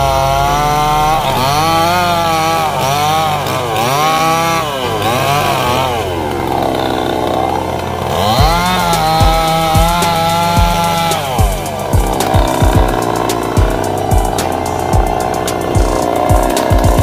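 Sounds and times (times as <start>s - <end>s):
chainsaw cutting wood: 0.0s - 17.0s.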